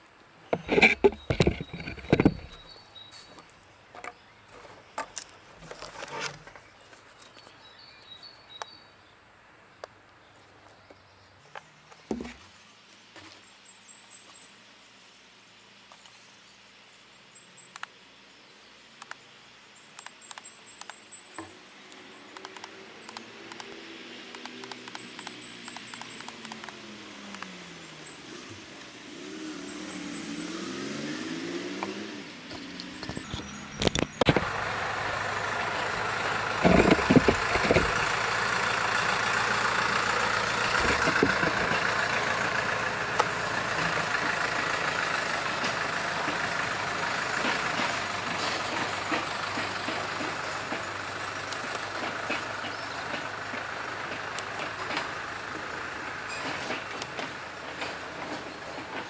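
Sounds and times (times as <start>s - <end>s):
vehicle engine running: 11.5s - 59.0s.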